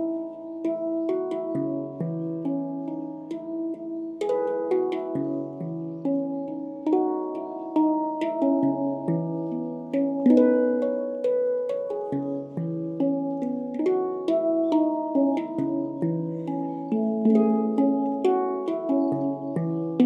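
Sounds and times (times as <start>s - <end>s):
handpan melody: 0.0s - 20.0s.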